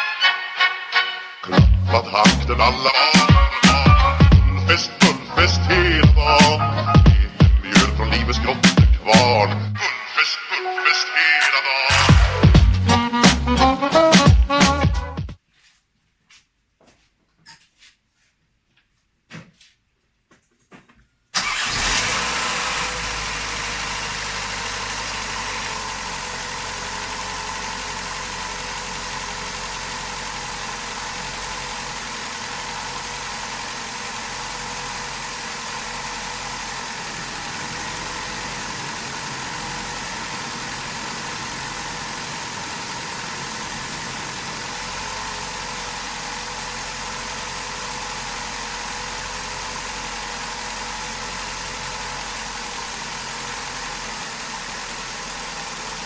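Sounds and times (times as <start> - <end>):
car engine starting and idling: 1.5 - 9.8, 11.9 - 15.2, 21.3 - 56.0.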